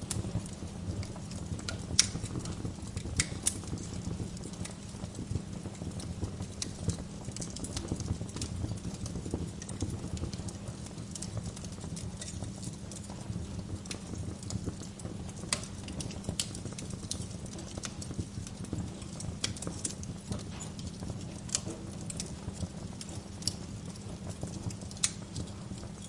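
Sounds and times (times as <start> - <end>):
burning logs popping and crackling: 0.0 - 26.0
fire rumbling in fireplace: 0.0 - 26.0.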